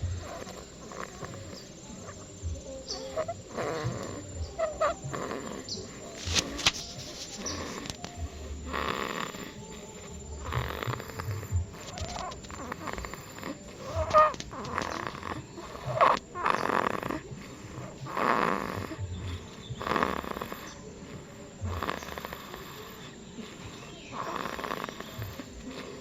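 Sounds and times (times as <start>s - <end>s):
small child snoring: 0.0s - 26.0s.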